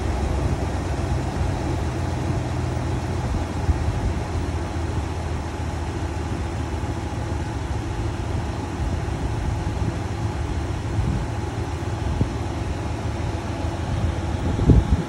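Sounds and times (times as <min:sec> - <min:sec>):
engine idling: 0:00.0 - 0:15.0
loud engine cooling fan: 0:00.0 - 0:15.0.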